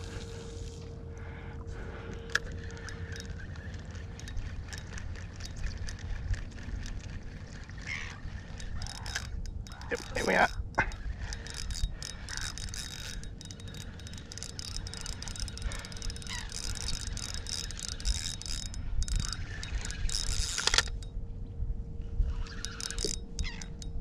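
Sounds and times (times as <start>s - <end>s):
fishing reel clicking: 2.2s - 21.1s, 22.2s - 24.0s.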